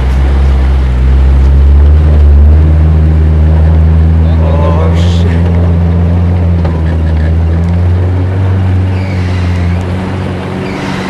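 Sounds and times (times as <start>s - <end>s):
truck driving through water: 0.0s - 11.0s
truck engine droning: 0.0s - 11.0s.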